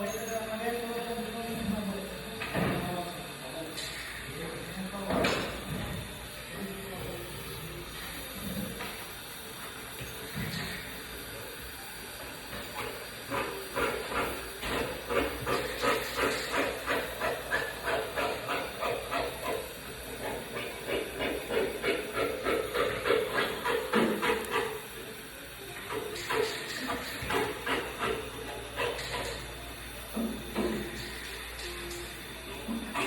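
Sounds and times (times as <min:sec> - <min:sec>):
pulsing welding hiss: 0:00.0 - 0:33.0.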